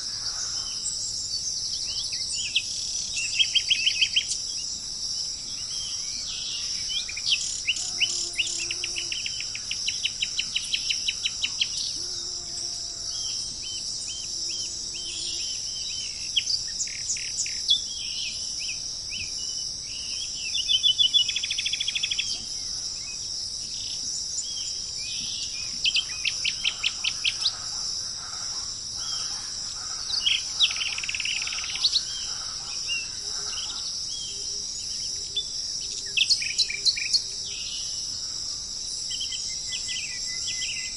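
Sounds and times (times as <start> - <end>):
birds calling and singing: 0.0 - 12.3, 13.1 - 38.3
high-pitched insect chorus: 0.0 - 40.9.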